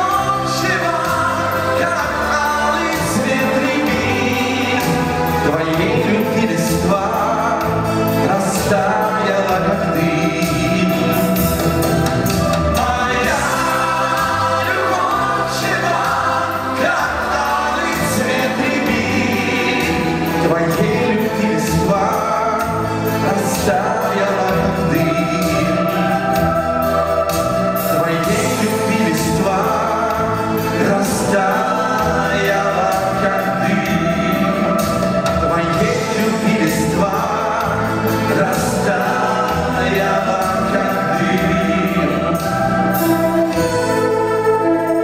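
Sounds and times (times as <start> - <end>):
rock band playing live: 0.0 - 45.0
voices singing: 0.0 - 45.0.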